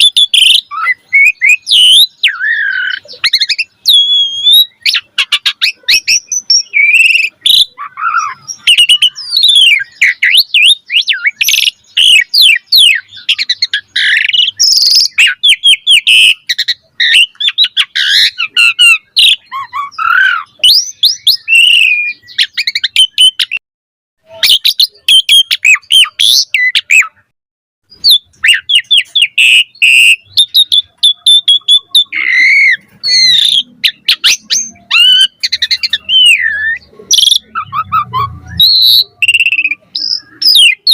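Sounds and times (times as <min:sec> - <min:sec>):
starling singing varied song: 0:00.0 - 0:23.6, 0:27.9 - 0:40.9.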